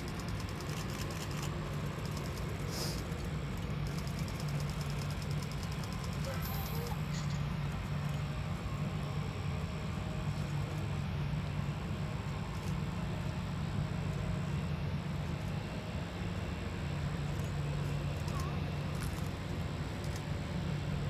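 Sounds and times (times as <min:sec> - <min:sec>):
low engine drone: 0:00.0 - 0:21.0
faint high whine: 0:02.6 - 0:21.0.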